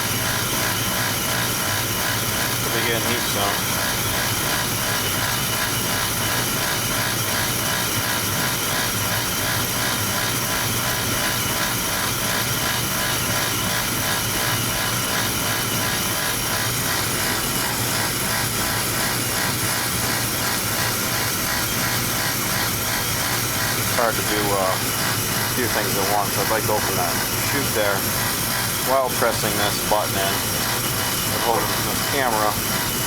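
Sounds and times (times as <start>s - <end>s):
oil burner droning: 0.0s - 33.0s.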